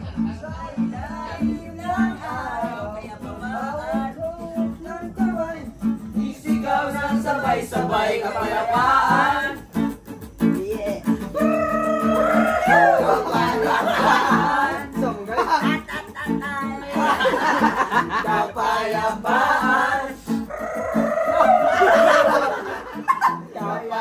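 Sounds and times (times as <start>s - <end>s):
song with guitar and singing: 0.0s - 24.0s.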